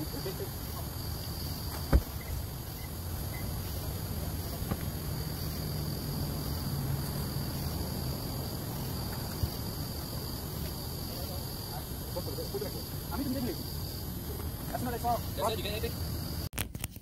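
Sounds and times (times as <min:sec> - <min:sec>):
high-pitched insect drone: 0:00.0 - 0:16.5.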